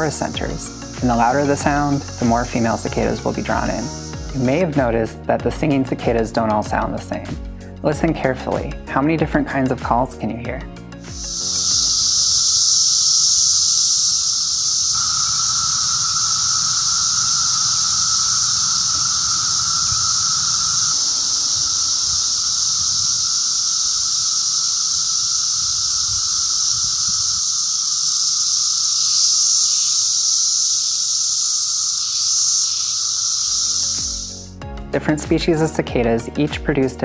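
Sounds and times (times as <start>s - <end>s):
high-pitched cicada shrill: 0.0s - 36.4s
lower droning cicada call: 0.0s - 37.0s.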